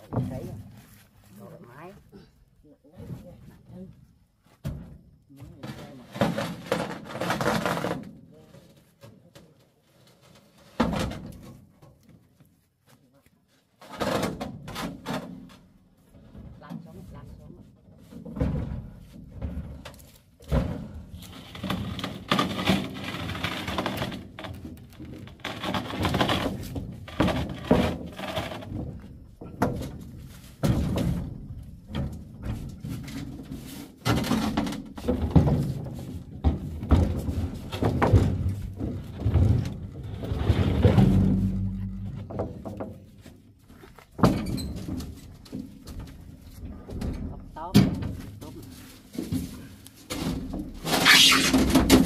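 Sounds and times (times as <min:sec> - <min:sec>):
irregular thuds and knocks: 0:00.0 - 0:01.2, 0:03.0 - 0:08.2, 0:13.9 - 0:51.0.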